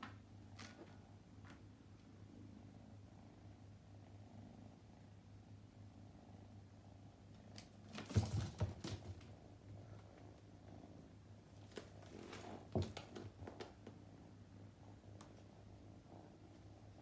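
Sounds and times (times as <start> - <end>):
kitten purring: 0.1 - 7.9, 8.8 - 17.0.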